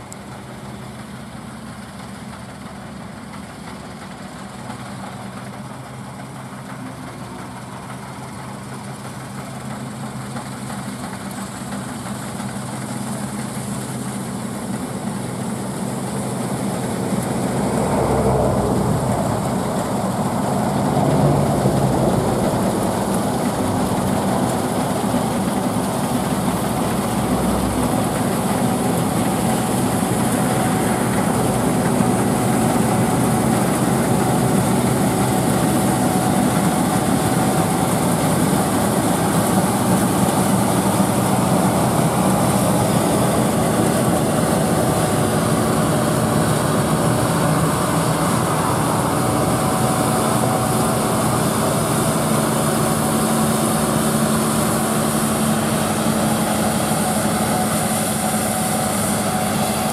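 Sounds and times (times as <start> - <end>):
combine harvester engine drone: 0.0 - 59.9
constant machine whine: 0.0 - 59.9.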